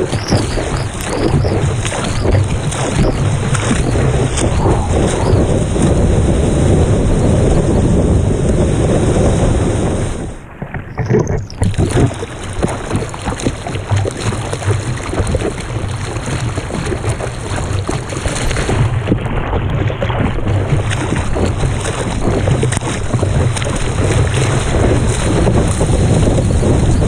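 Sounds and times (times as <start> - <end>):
paddle stroke splashes: 0.0 - 8.1, 9.2 - 27.0
water rushing and splashing: 0.0 - 27.0
wind on microphone: 0.0 - 27.0.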